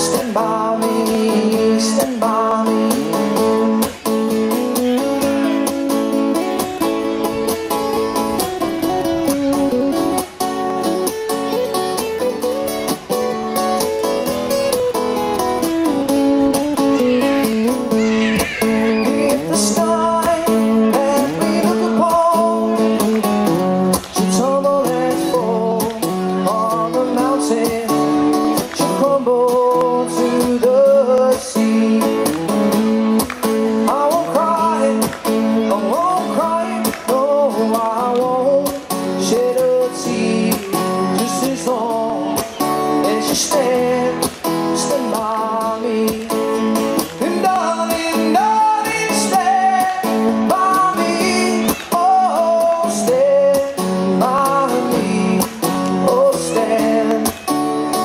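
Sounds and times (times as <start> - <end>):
man singing into microphone: 0.0 - 10.8, 15.4 - 58.0
acoustic guitars strummed: 0.0 - 58.0.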